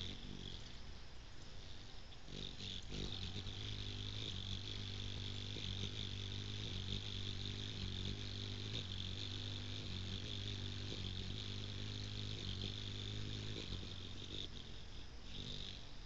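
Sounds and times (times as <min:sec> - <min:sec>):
hummingbird wingbeats humming: 0:00.0 - 0:16.0
insects droning: 0:00.0 - 0:16.0.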